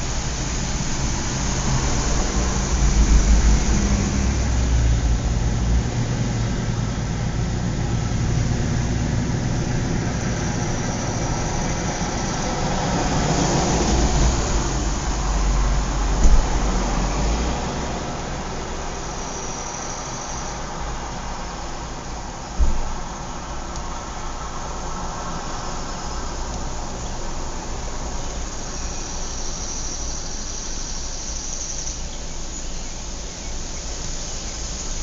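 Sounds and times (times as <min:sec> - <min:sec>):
road traffic rumble: 0:00.0 - 0:35.0
vehicles passing: 0:00.0 - 0:35.0.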